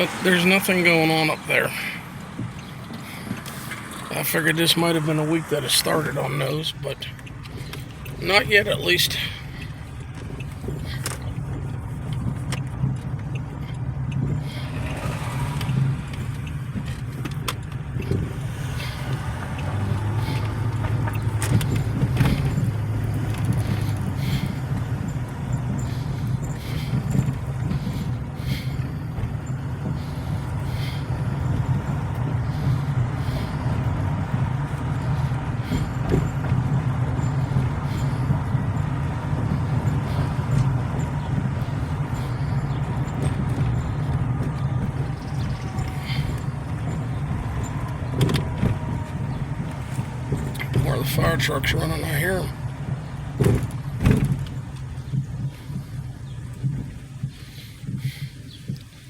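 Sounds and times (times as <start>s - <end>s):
car engine and road noise: 0.0s - 59.0s
light clicks and rattles: 1.7s - 59.0s.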